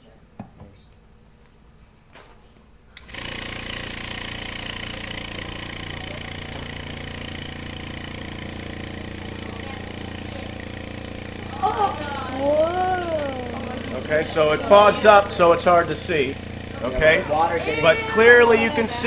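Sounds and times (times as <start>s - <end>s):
vacuum pump humming and hissing: 2.9s - 19.0s.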